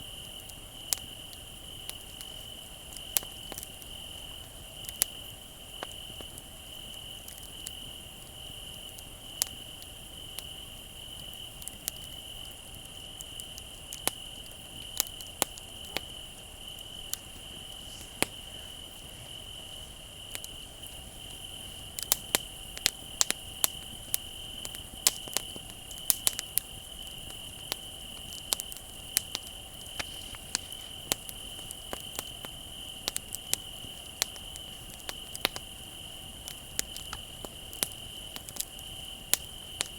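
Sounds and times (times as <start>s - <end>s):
campfire crackling and popping: 0.0s - 39.9s
crickets trilling: 0.0s - 39.9s.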